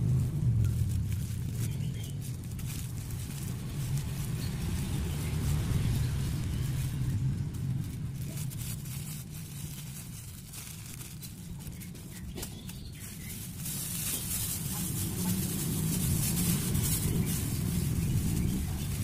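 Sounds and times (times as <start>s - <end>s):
low background hum: 0.0s - 19.0s
plastic bags crinkling: 0.0s - 19.0s.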